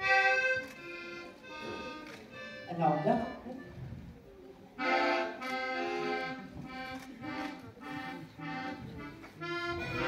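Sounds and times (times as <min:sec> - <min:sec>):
accordion short chords: 0:00.0 - 0:04.1, 0:04.8 - 0:10.0.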